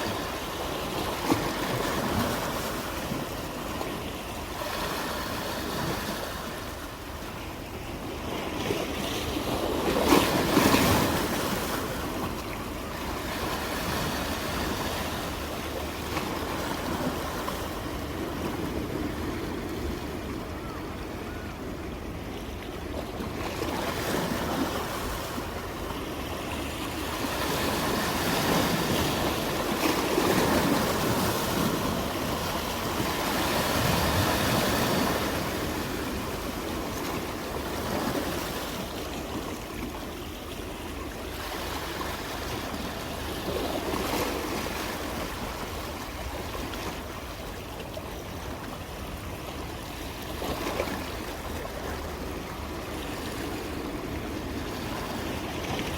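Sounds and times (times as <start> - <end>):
sea waves breaking ashore: 0.0 - 55.9.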